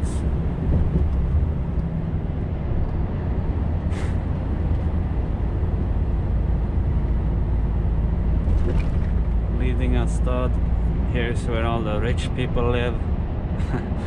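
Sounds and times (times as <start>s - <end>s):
truck engine and road drone: 0.0s - 14.0s.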